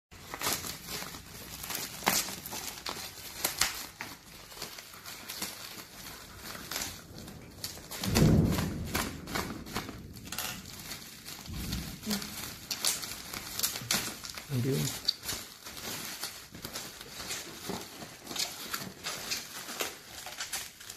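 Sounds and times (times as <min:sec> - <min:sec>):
plastic bag crinkling: 0:00.1 - 0:20.9.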